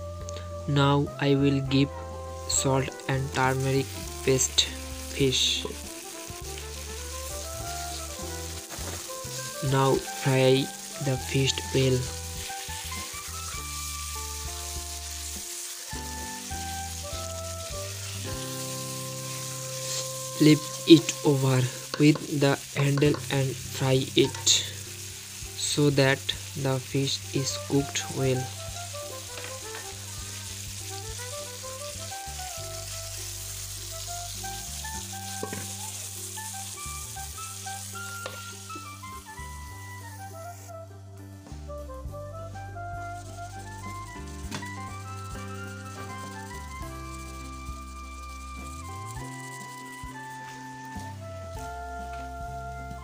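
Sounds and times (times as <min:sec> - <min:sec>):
background music of held notes: 0:00.0 - 0:53.0
fish sizzling in hot oil: 0:01.5 - 0:53.0
spatula turning food: 0:01.9 - 0:40.7, 0:42.8 - 0:51.7.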